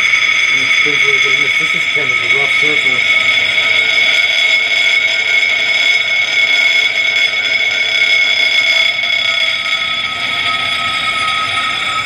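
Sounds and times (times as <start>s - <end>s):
spinning steel balls whining: 0.0s - 12.0s.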